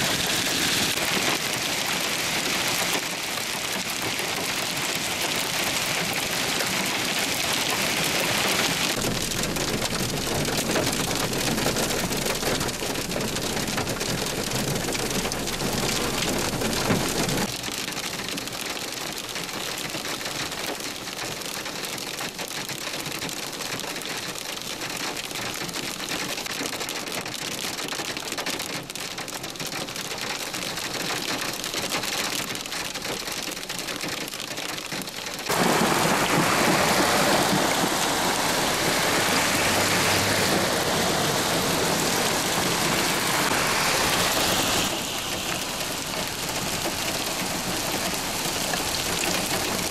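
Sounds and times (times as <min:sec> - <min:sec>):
hail and heavy rain on pavement: 0:00.0 - 0:49.9.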